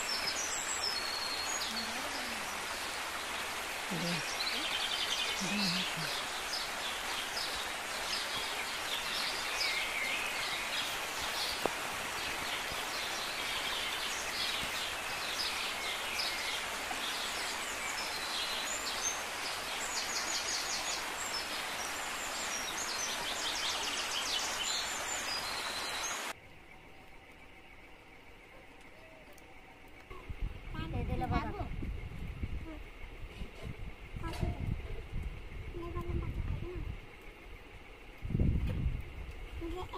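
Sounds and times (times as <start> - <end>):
small birds chirping: 0.0 - 39.9
steady background hiss: 0.0 - 39.9.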